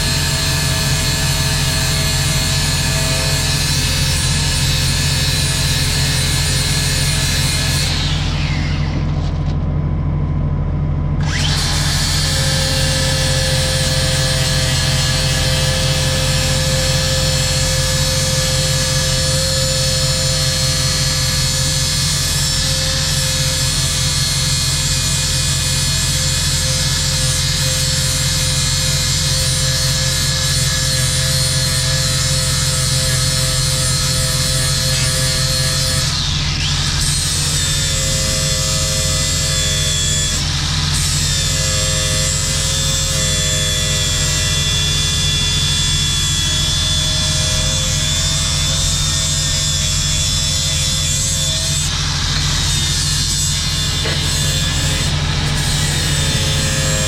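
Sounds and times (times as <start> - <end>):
power grinder grinding steel: 0.0 - 9.5, 11.2 - 57.0
constant low hum: 0.0 - 57.0.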